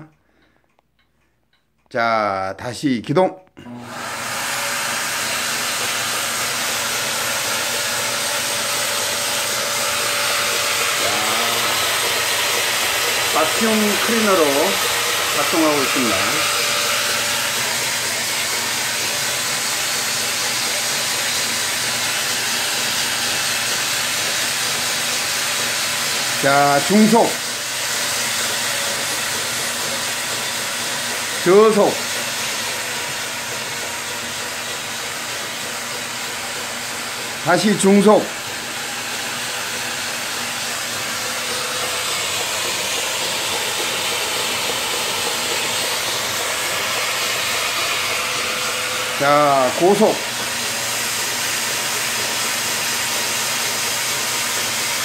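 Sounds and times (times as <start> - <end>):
vacuum cleaner running: 3.6 - 55.0.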